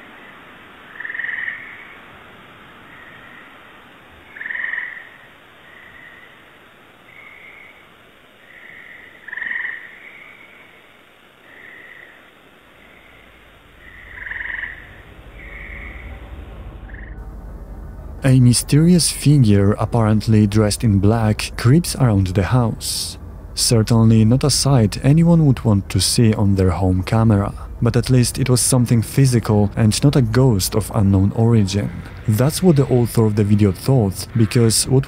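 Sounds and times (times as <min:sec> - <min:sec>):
frogs calling: 0:00.0 - 0:35.0.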